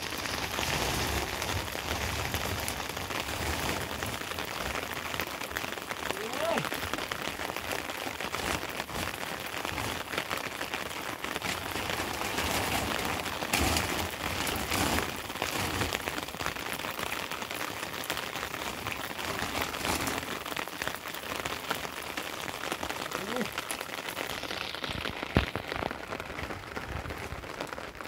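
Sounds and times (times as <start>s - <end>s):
rain falling: 0.0s - 28.0s
raindrops hitting close by: 0.0s - 28.0s.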